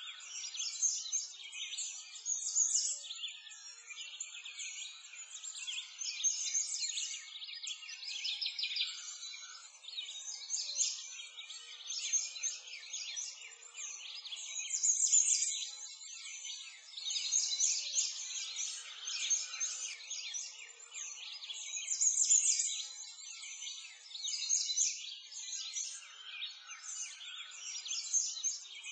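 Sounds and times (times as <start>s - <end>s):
songbirds chirping: 0.0s - 28.9s.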